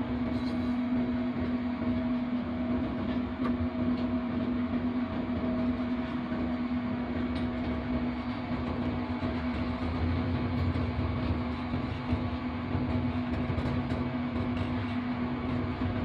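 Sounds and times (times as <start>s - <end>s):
locomotive cab hum: 0.0s - 16.0s
wheel and rail rumble: 0.0s - 16.0s.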